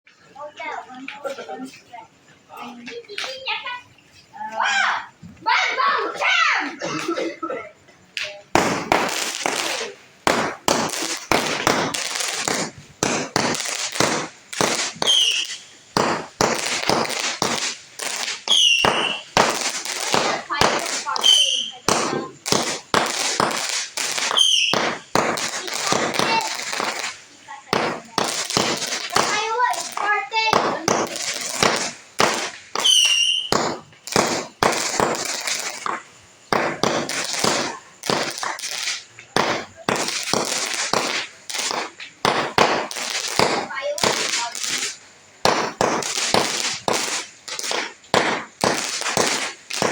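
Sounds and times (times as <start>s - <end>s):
fireworks bangs with crackle: 0.1s - 49.9s.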